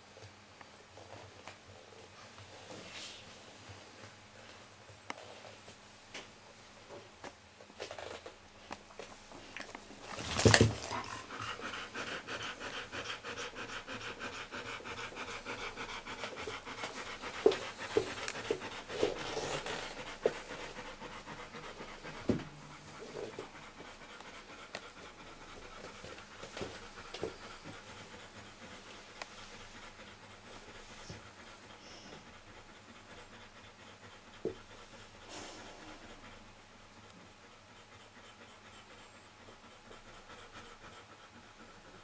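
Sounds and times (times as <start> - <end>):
dog panting: 0.8 - 42.0.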